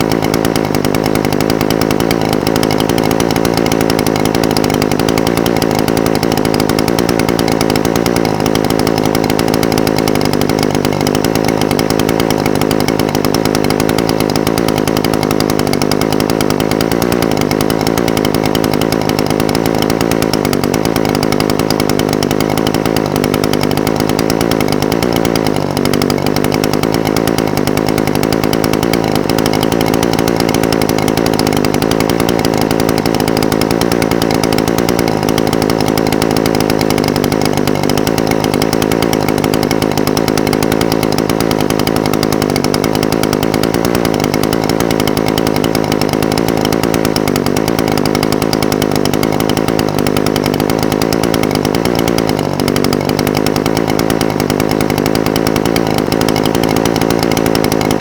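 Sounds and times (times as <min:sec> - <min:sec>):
brush cutter engine idling: 0:00.0 - 0:58.0.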